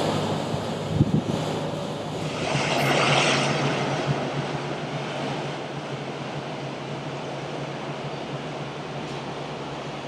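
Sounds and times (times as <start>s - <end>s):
ship diesel engine drone: 0.0s - 10.0s.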